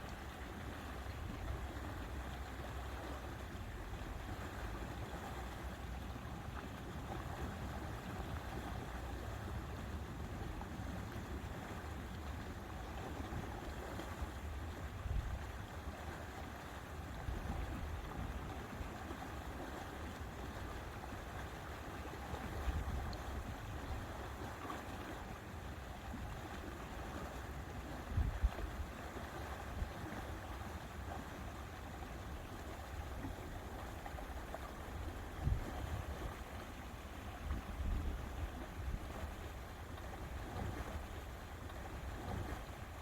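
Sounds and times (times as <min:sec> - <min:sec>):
water lapping at shore: 0:00.0 - 0:43.0.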